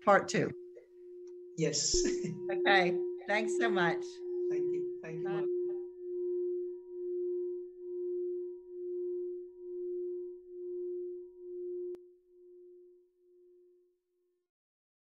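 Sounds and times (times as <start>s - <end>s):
sustained ringing tone: 0.0s - 13.8s.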